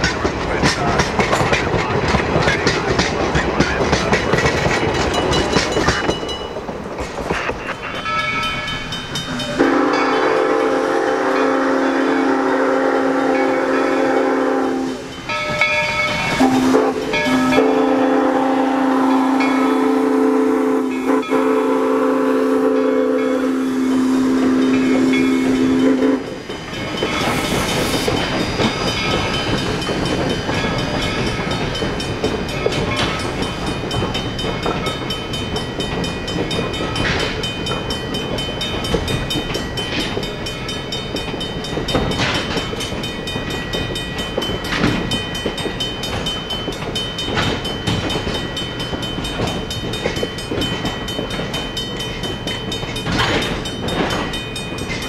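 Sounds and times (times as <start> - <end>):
crossing bell ringing: 0.0 - 55.0
train wheels clicking on rail joints: 0.0 - 55.0
steam locomotive chime whistle: 7.4 - 55.0.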